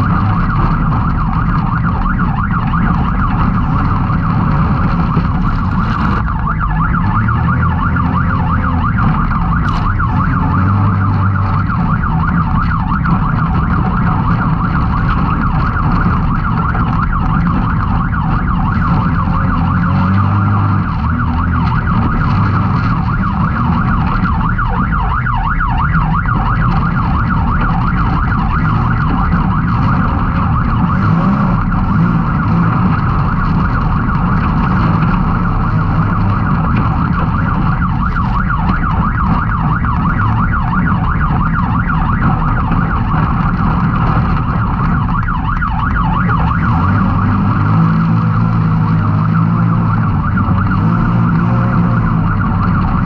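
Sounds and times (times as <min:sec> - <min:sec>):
engine running hard: 0:00.0 - 0:53.0.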